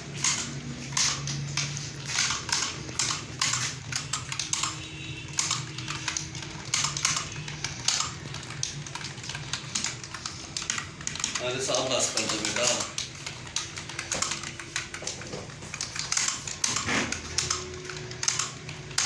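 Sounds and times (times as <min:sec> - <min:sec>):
computer keyboard typing: 0:00.0 - 0:19.0.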